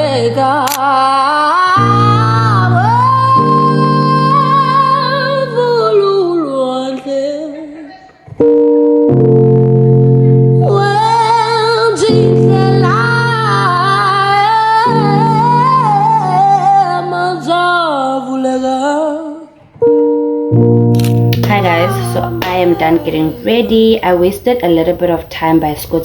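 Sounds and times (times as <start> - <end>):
woman singing: 0.0 - 8.4, 10.2 - 19.8, 21.3 - 26.0
sustained keyboard chords: 1.7 - 6.9, 8.3 - 18.1, 19.8 - 26.0.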